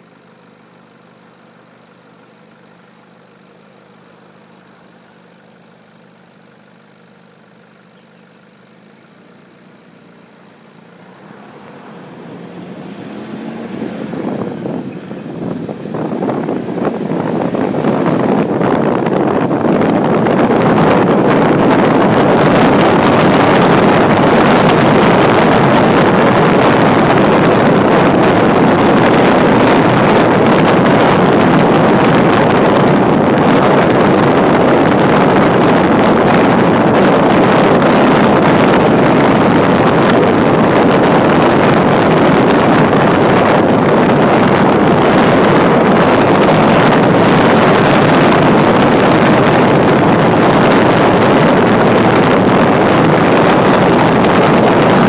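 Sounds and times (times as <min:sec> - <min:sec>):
wind rushing over microphone: 0:09.1 - 0:55.0.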